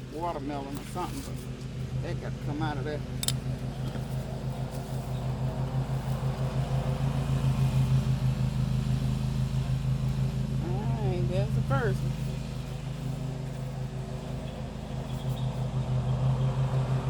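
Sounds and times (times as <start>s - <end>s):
petrol lawn mower engine running: 0.0s - 17.0s.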